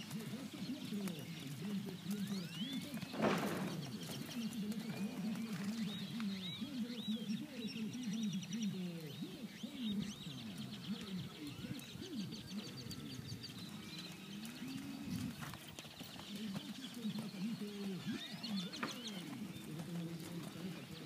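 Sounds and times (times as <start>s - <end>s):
low bending bird calls: 2.2s - 21.0s.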